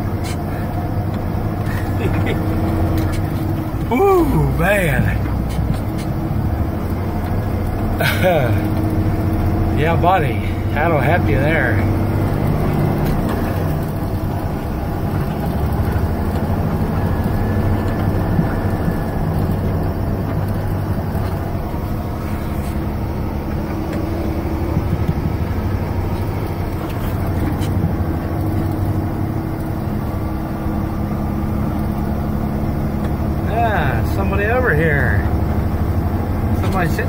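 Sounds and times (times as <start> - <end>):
road noise: 0.0 - 37.0
truck engine running: 0.0 - 37.0.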